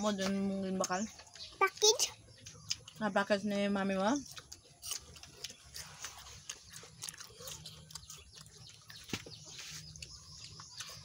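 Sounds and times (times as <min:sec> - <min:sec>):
crisp crunches of chewing: 0:00.8 - 0:03.1, 0:04.1 - 0:11.0.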